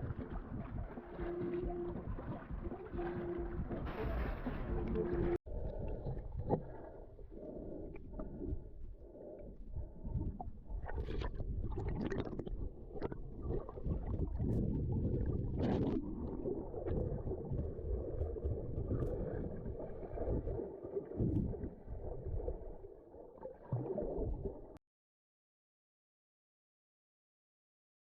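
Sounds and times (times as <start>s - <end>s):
wind rumble on microphone: 0.0s - 22.8s
water sloshing against hull: 0.0s - 24.8s.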